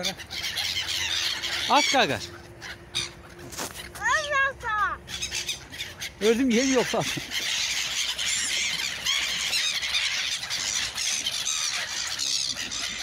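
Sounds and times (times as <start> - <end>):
gulls screeching: 0.0 - 13.0.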